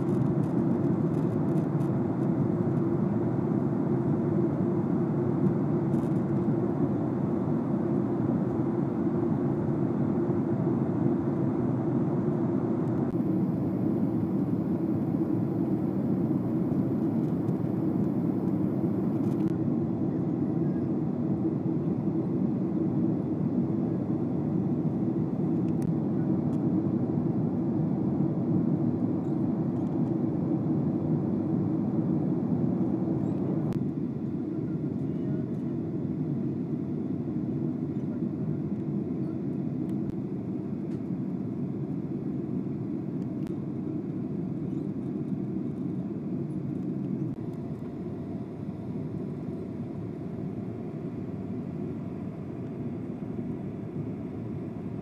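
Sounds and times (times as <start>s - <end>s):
jet airliner cabin noise: 0.0s - 55.0s.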